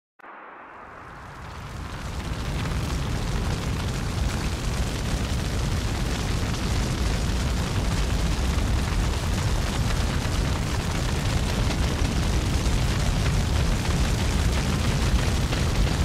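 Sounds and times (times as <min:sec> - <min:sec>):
wildfire rumbling and crackling: 0:00.8 - 0:16.0.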